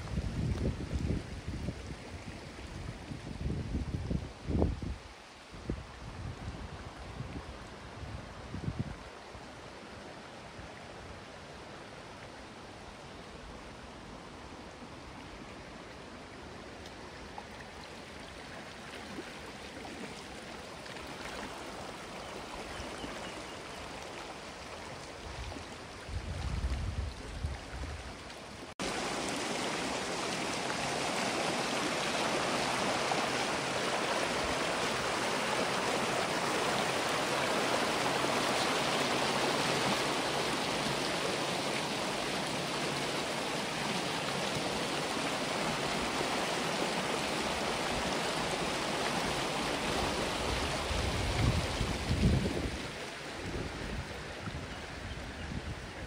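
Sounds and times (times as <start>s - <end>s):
water flowing over rocks: 0.0s - 56.0s.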